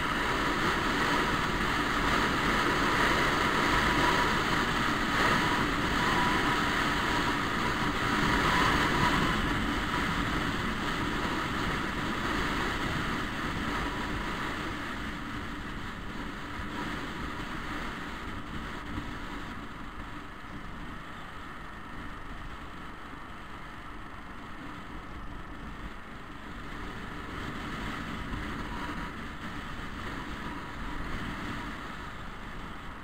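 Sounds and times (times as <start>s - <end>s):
scooter road noise: 0.0s - 33.0s
wind on microphone: 0.0s - 33.0s.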